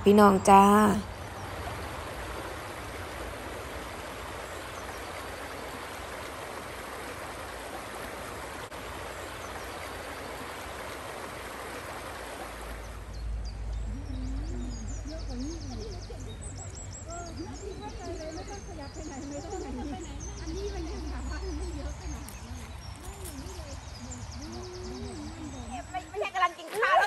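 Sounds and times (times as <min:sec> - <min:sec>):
stream babbling over stones: 0:00.0 - 0:27.0.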